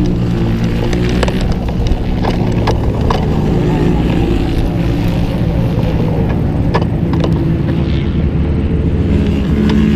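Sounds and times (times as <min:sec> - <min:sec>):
race car engine at low revs: 0:00.0 - 0:09.9.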